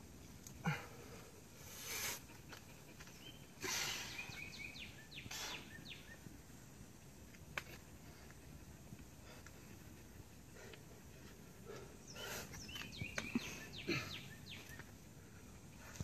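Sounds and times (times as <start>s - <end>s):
small birds chirping: 1.5s - 16.0s.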